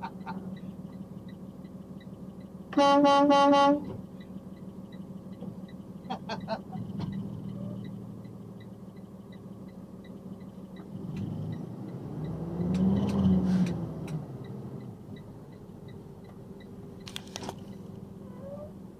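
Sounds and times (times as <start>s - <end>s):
truck engine humming: 0.0s - 18.9s.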